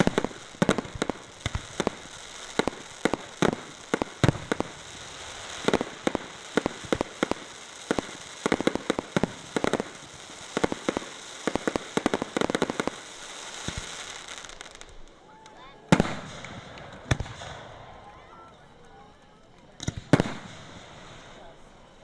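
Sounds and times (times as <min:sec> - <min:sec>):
fireworks bangs: 0:00.0 - 0:22.0
rapid small firework reports: 0:00.0 - 0:22.0.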